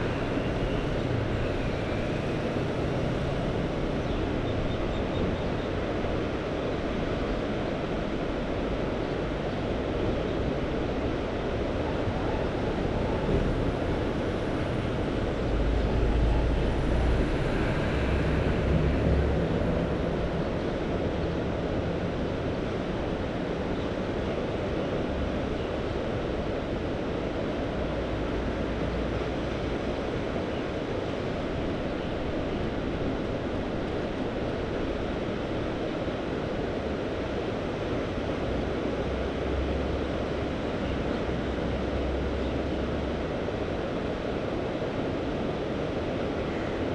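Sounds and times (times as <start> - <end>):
wind rumbling on microphone: 0.0 - 46.9.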